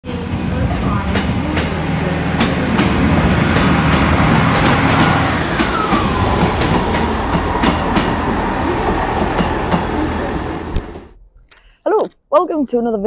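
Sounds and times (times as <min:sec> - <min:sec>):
train whine: 0:00.0 - 0:11.2.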